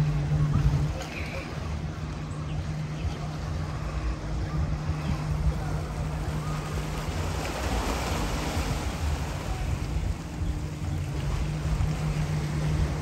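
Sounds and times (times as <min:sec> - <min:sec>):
steady low hum: 0:00.0 - 0:13.0
waves washing on a beach: 0:00.0 - 0:13.0
wind buffeting the microphone: 0:00.0 - 0:13.0.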